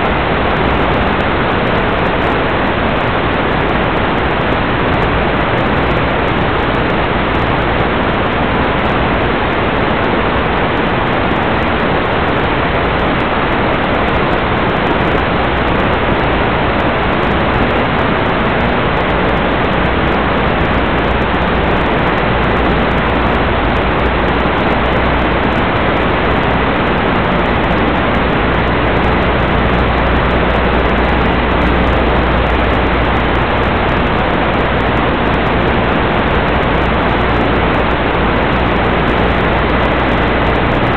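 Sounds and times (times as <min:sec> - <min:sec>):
radio static hiss: 0:00.0 - 0:40.9.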